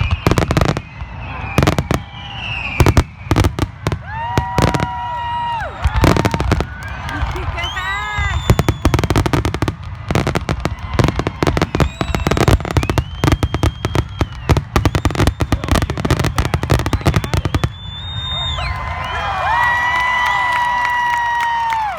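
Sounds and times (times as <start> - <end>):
fireworks whistles: 0.0 - 6.6, 7.2 - 19.3
fireworks bangs and crackling: 0.0 - 21.8.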